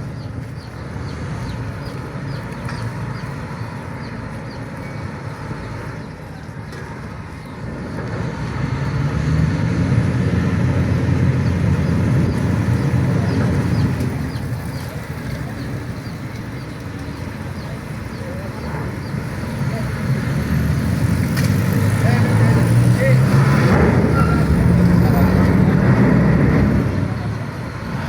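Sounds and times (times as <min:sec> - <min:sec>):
heavy diesel engines rumbling: 0:00.0 - 0:28.0.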